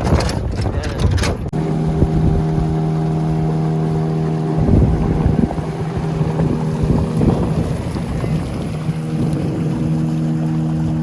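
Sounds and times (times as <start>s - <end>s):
wind on microphone: 0.0s - 11.0s
vehicle engine droning: 1.5s - 11.0s.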